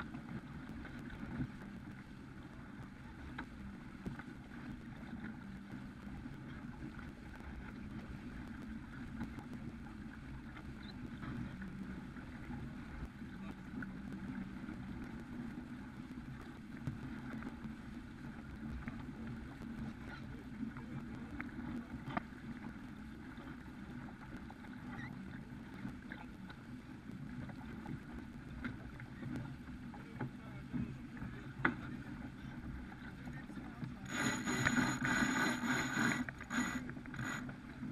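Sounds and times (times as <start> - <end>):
water rushing along boat hull: 0.0 - 37.9.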